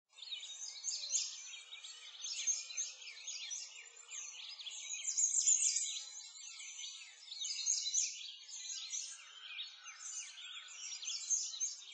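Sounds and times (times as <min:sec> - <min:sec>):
birds chirping and singing: 0:00.2 - 0:11.9.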